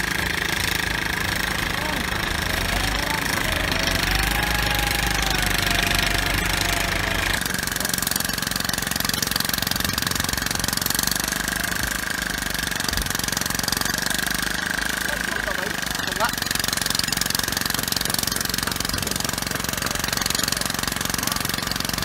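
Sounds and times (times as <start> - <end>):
machinery mechanical pounding: 0.0 - 22.0.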